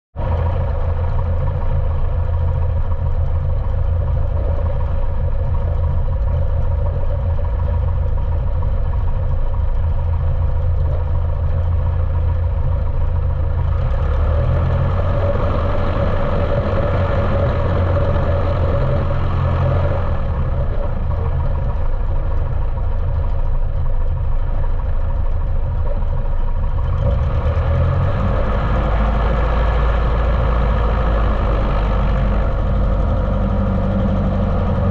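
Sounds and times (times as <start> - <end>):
muffled aircraft engine running: 0.2 - 34.9.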